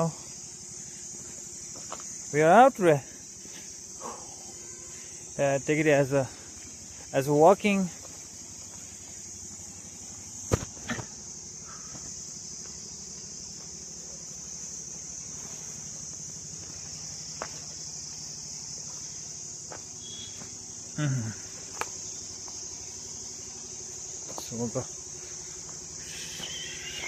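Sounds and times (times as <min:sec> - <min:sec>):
insect chorus: 0:00.0 - 0:27.0.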